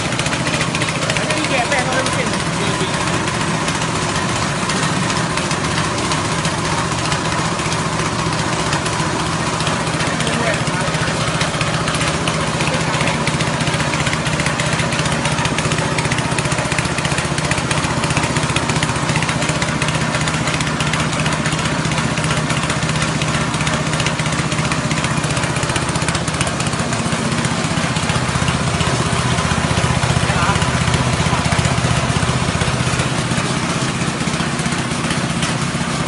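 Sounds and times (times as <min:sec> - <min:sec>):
grinder rushing noise: 0:00.0 - 0:36.0
petrol engine drone: 0:00.0 - 0:36.0.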